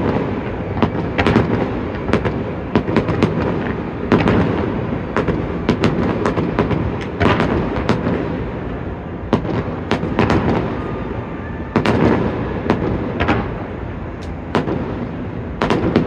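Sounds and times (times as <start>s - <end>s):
fireworks sharp bangs: 0.0s - 16.0s.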